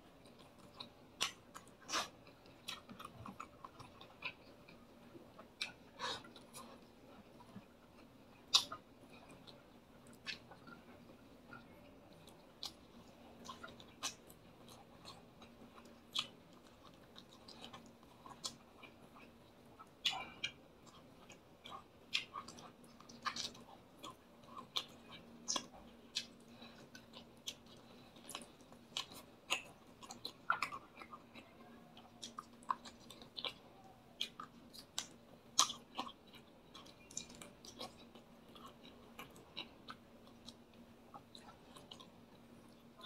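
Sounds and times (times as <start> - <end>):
faint steady hum: 0.0 - 43.0
man chewing food: 0.0 - 43.0.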